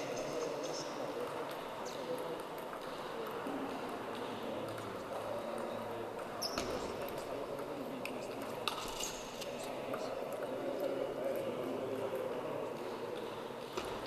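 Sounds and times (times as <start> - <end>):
sports hall background noise: 0.0 - 14.0.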